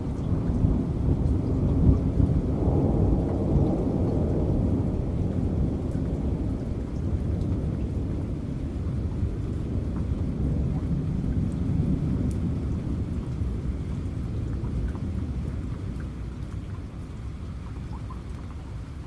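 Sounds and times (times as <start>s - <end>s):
rolling thunder: 0.0s - 16.8s
steady rain: 0.0s - 19.0s.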